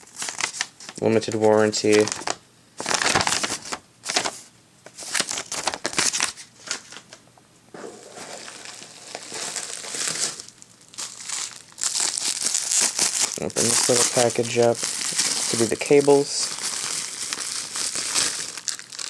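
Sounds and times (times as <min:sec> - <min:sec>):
packing material crinkling: 0:00.0 - 0:07.1, 0:07.8 - 0:19.0.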